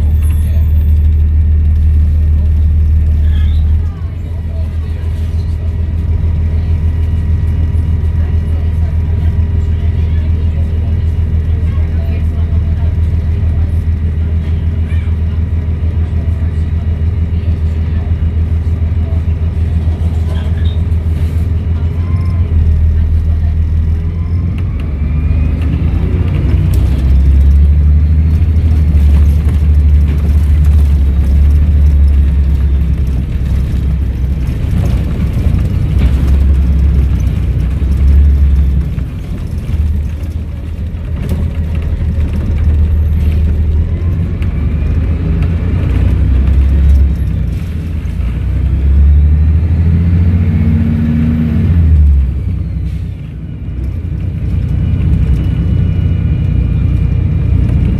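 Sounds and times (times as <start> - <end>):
bus engine running under load: 0.0 - 57.9.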